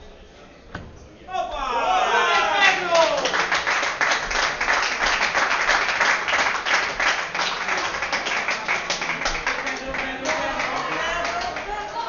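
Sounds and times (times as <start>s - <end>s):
audience clapping: 2.3s - 12.0s.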